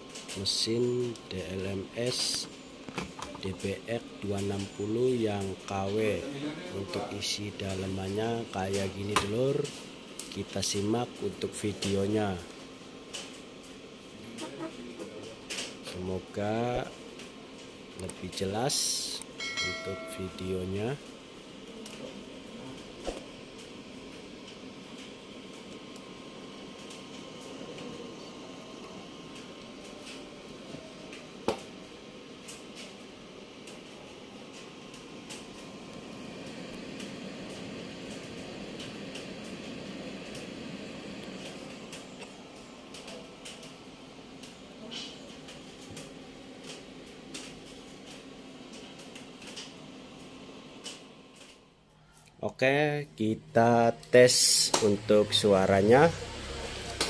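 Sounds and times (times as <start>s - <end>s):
faint room hum and hiss: 0.0s - 57.0s.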